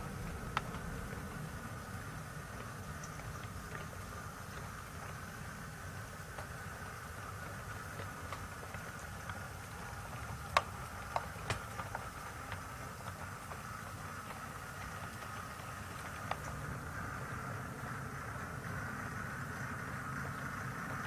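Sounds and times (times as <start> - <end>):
model train rumble and hum: 0.0 - 21.0
sharp clicks of wheels on track: 0.0 - 21.0.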